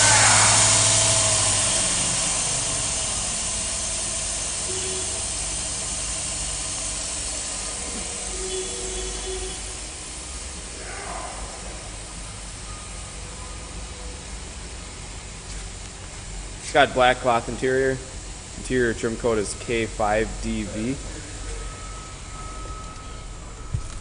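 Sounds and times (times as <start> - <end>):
car engine humming: 0.0 - 24.0
steady hiss: 0.0 - 24.0.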